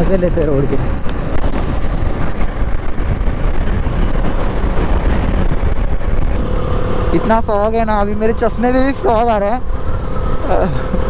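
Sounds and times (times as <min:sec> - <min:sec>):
road noise: 0:00.0 - 0:11.0
wind buffeting microphone: 0:00.0 - 0:11.0
motorcycle engine: 0:01.2 - 0:11.0.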